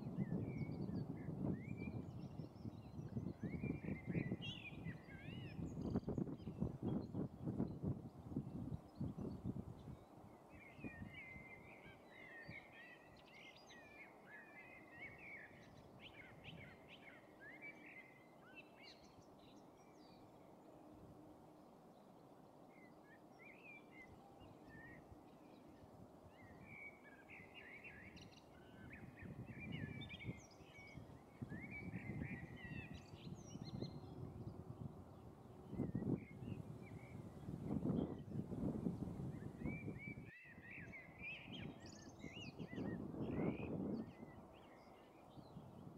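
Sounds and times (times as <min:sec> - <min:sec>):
songbirds chirping: 0:00.0 - 0:45.9.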